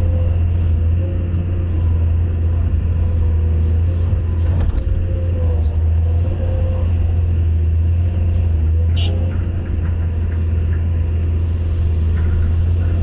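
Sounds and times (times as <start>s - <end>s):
diesel engine deep drone: 0.0s - 13.0s.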